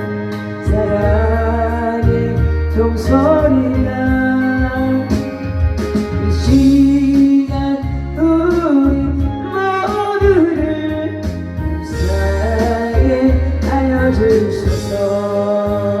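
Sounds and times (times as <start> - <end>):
hymn singing with instruments: 0.0 - 16.0.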